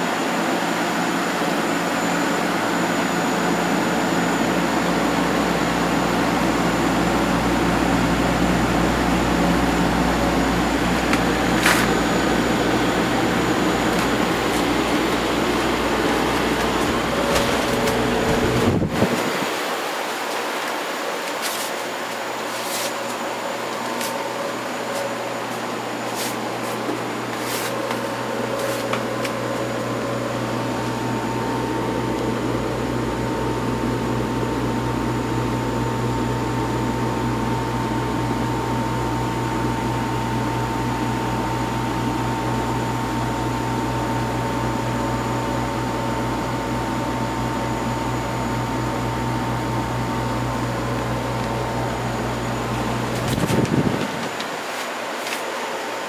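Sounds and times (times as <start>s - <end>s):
thin steady whine: 0.0s - 56.0s
ventilation fans whooshing: 0.0s - 56.0s.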